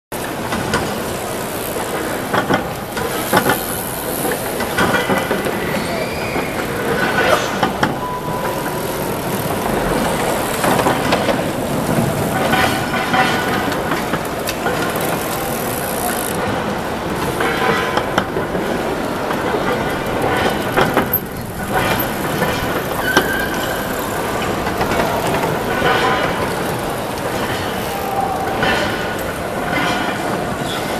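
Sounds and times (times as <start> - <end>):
busy exhibition hall din: 0.1 - 30.9.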